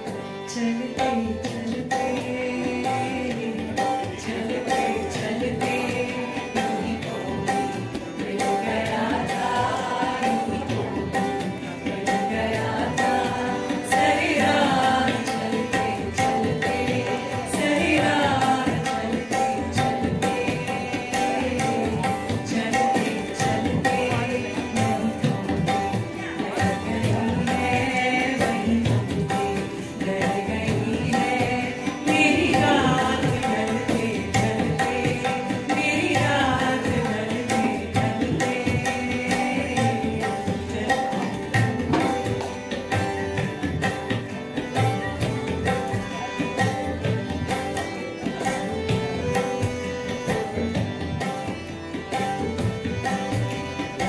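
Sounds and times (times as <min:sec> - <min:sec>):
harmonium: 0:00.0 - 0:54.0
tabla drumming: 0:00.0 - 0:54.0.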